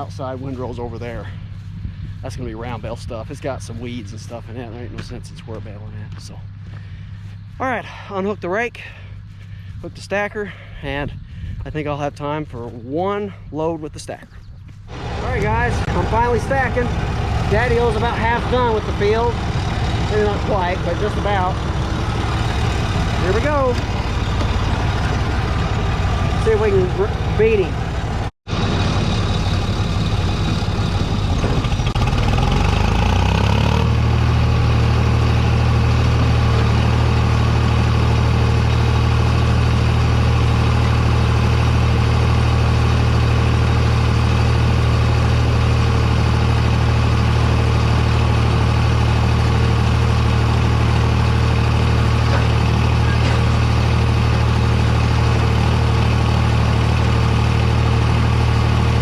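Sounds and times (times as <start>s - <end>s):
tractor diesel engine running: 0.0s - 12.7s, 14.8s - 59.0s.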